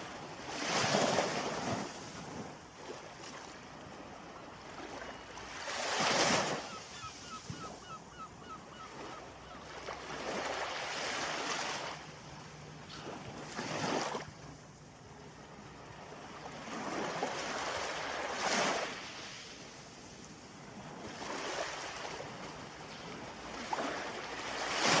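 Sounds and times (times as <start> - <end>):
waves breaking on shore: 0.0 - 8.0, 8.7 - 25.0.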